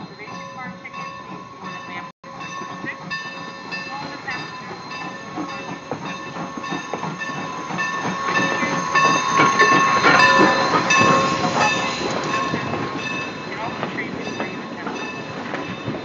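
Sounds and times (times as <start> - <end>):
locomotive bell ringing: 0.0 - 16.0
steam train clanking and hissing: 0.0 - 16.0.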